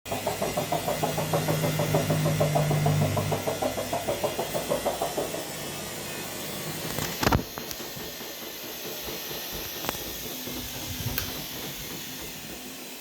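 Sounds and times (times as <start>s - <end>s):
washing drum knocking: 0.1s - 5.8s, 7.4s - 13.0s
washing machine motor hum: 0.1s - 13.0s.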